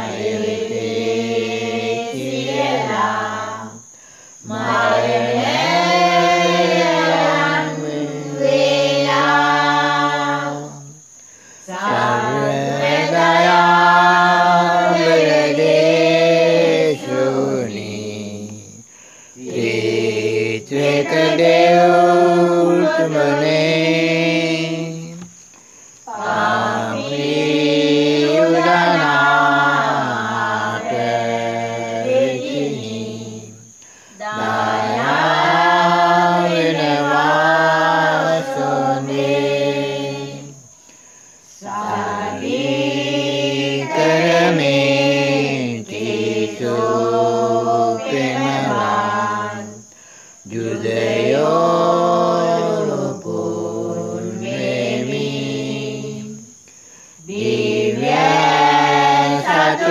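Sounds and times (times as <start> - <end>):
group chanting a hymn: 0.0 - 59.9.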